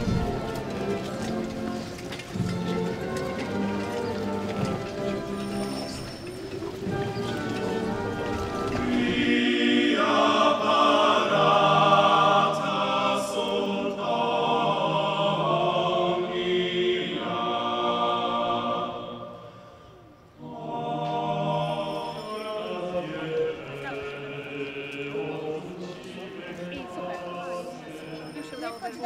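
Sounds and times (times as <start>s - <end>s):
choir singing held chords: 0.0s - 29.0s.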